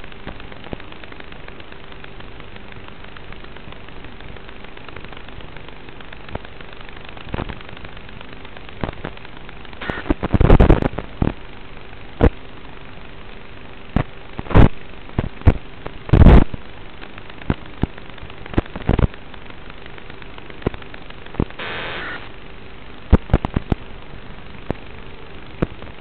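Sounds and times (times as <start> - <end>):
radio static hiss with crackles: 0.0 - 26.0.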